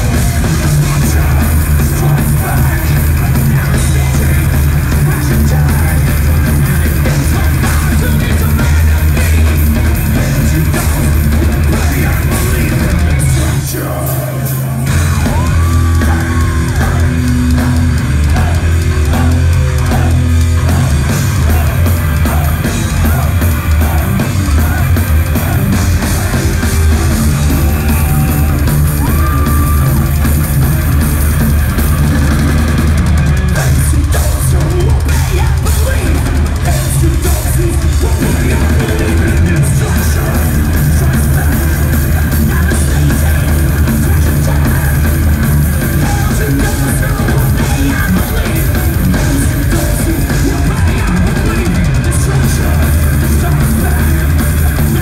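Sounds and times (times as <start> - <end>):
metal band playing live: 0.0 - 55.0.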